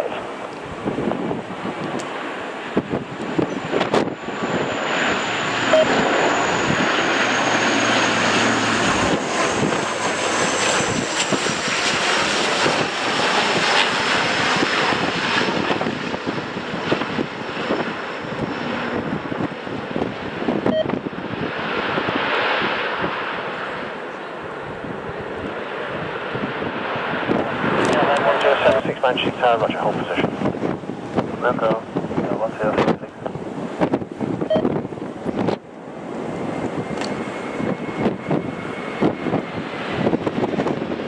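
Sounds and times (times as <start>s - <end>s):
jet engines roaring: 0.0s - 41.0s.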